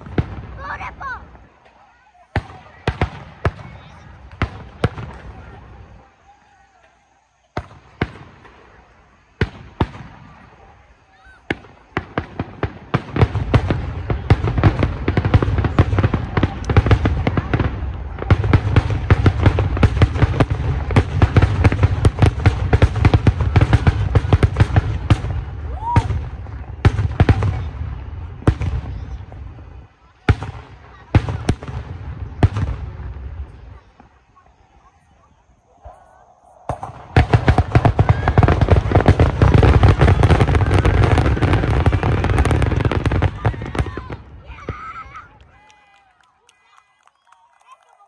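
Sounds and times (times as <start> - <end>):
firework bangs: 0.0 - 6.1, 7.5 - 45.7.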